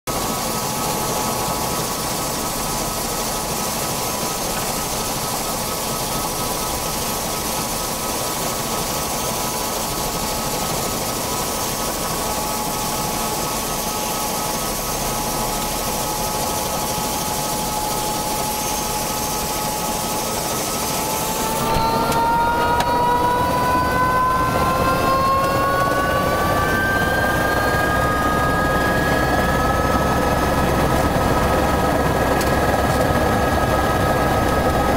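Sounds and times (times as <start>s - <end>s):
helicopter rotor noise: 0.1s - 34.9s
helicopter turbine whine: 0.1s - 34.9s.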